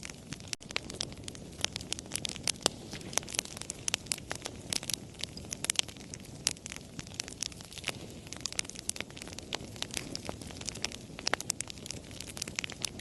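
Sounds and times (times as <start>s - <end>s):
low rumble of burning: 0.0s - 13.0s
wood fire crackling: 0.0s - 13.0s.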